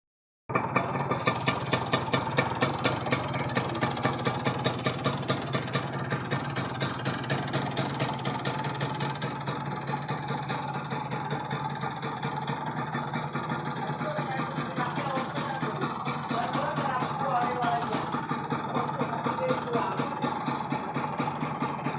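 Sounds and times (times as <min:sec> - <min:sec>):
two-stroke engine idling: 0:00.5 - 0:21.9.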